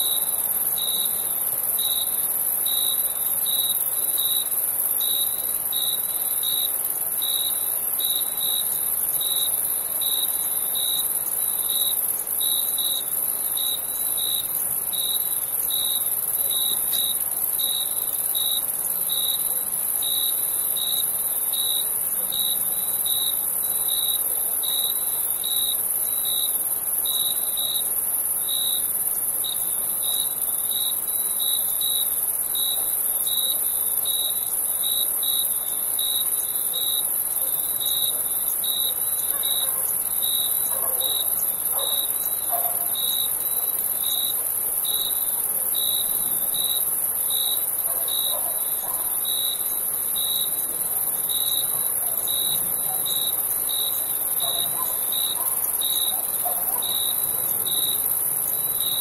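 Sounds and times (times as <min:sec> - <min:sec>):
crickets chirping: 0:00.0 - 0:59.0
high-pitched insect trill: 0:00.0 - 0:59.0.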